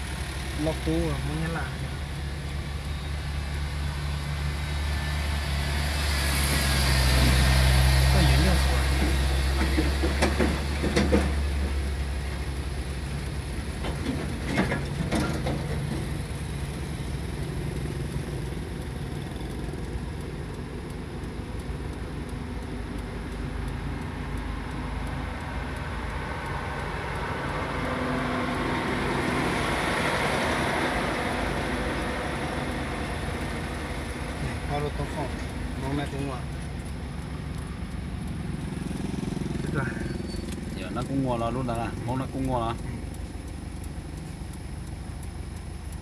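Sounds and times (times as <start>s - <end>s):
heavy truck passing: 0.0s - 46.0s.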